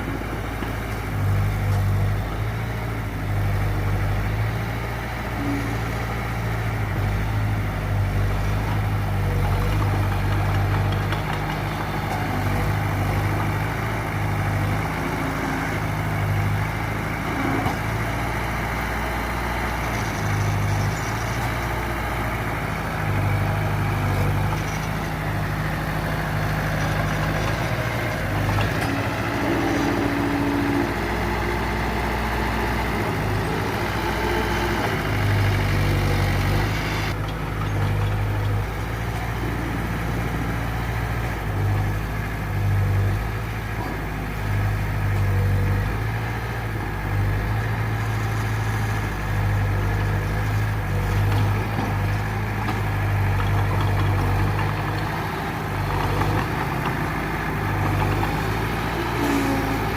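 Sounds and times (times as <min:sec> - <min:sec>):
diesel engine running at low revs: 0:00.0 - 0:59.9.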